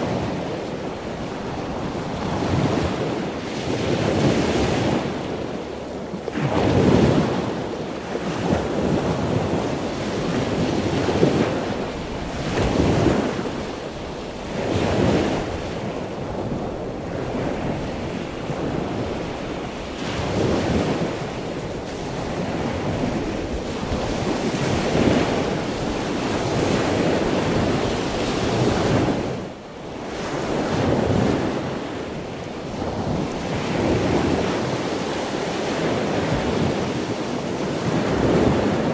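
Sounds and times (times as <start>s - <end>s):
wind buffeting microphone: 0.0s - 38.9s
sea surf breaking: 6.3s - 38.9s.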